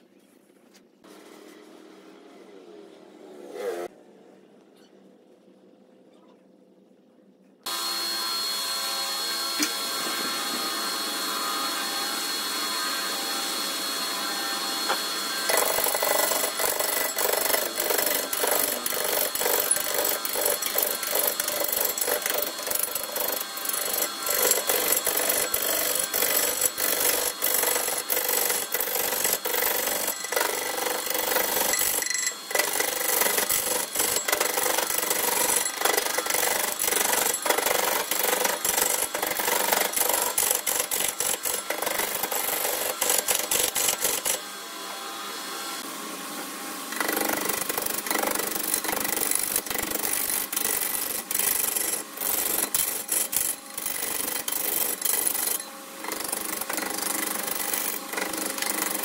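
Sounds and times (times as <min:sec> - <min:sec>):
tool scraping spinning wood: 0:07.7 - 0:44.4, 0:46.9 - 0:59.0
wood lathe humming: 0:07.7 - 0:59.0.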